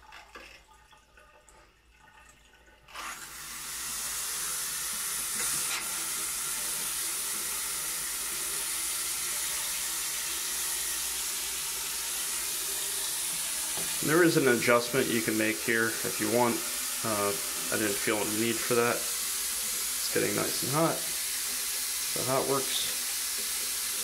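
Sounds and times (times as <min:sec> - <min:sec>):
water running from faucet into sink: 0:00.0 - 0:24.0.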